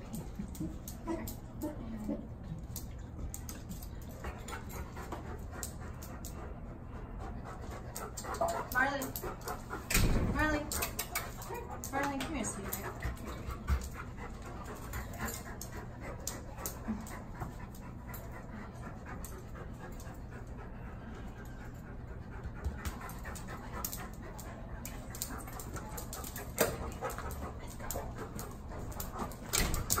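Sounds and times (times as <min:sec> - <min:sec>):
dog panting: 0:00.0 - 0:30.0.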